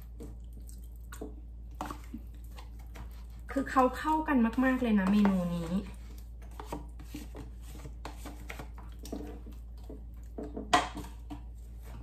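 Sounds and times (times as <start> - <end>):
spoon scraping plastic tub: 1.7 - 12.0.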